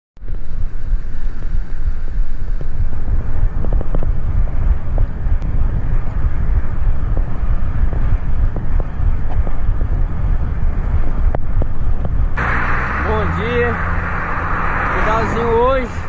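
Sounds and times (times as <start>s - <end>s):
wind buffeting microphone: 0.2s - 16.0s.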